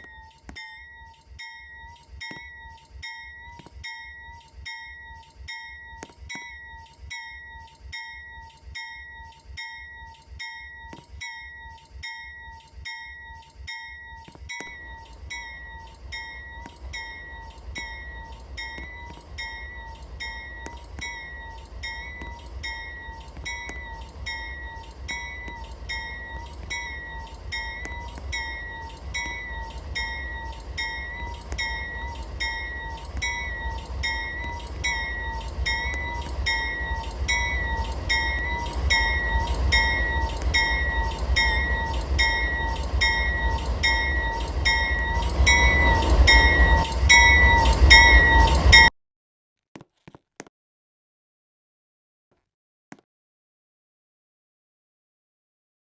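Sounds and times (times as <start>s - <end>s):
crossing warning bell ringing: 0.0s - 48.9s
train rumbling: 0.0s - 48.9s.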